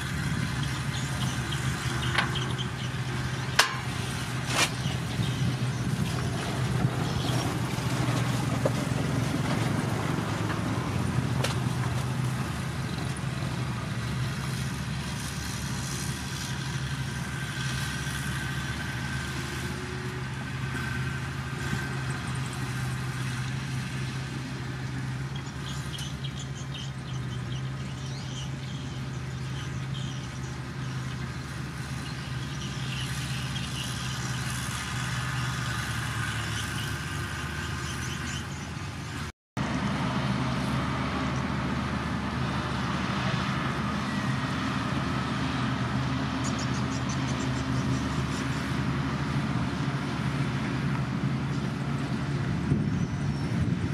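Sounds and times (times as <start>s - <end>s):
bulldozer diesel engine: 0.0s - 53.9s.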